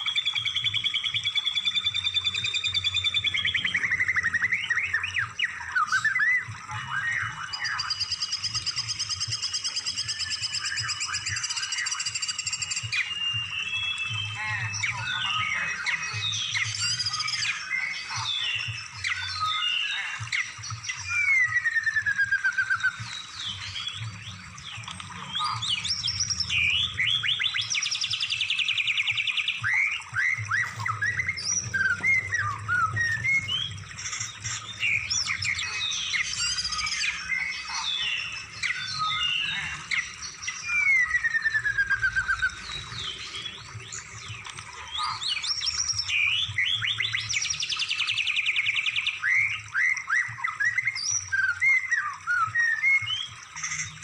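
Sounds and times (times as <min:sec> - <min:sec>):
recorded songbird song: 0:00.0 - 0:54.0.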